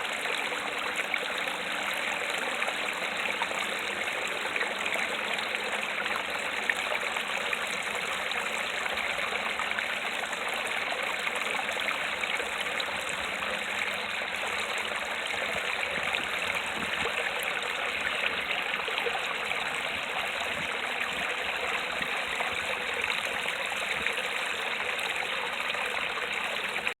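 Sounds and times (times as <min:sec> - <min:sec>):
water splashing over rocks: 0:00.0 - 0:27.0.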